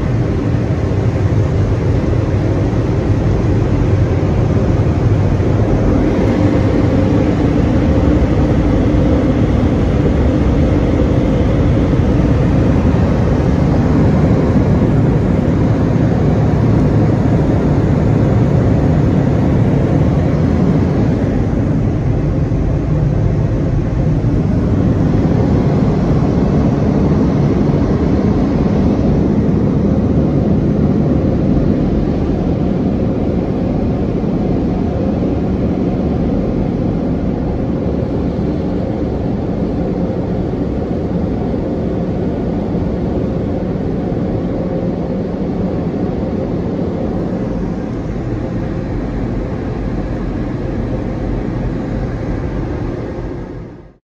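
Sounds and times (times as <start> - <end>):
dryer blowers rushing air: 0.0 - 54.0.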